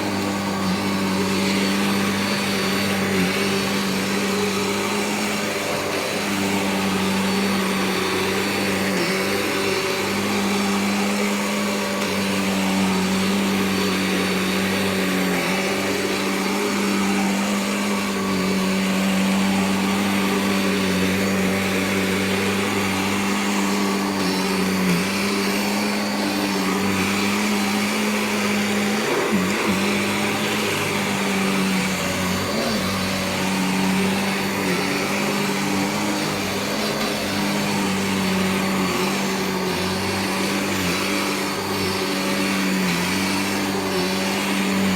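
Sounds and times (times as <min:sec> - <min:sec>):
vacuum cleaner whining drone: 0:00.0 - 0:44.9.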